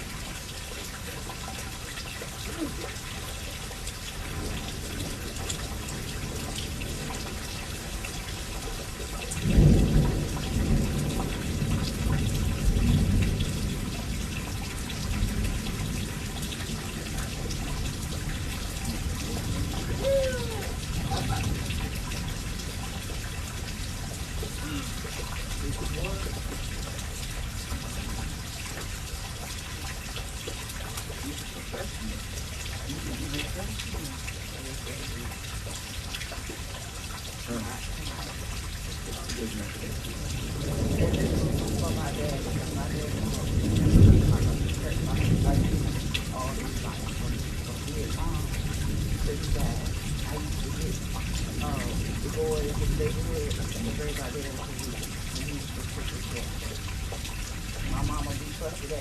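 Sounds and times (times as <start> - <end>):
low rumble of thunder: 0.0 - 59.0
steady rain falling: 0.0 - 59.0
water drips: 0.0 - 59.0.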